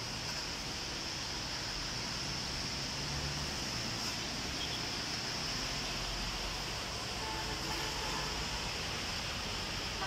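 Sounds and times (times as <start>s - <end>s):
steady outdoor noise: 0.0s - 10.0s.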